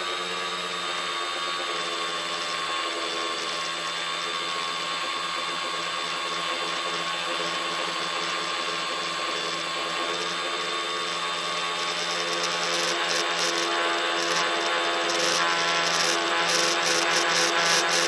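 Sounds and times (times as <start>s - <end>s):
drone motors whining: 0.1s - 18.0s.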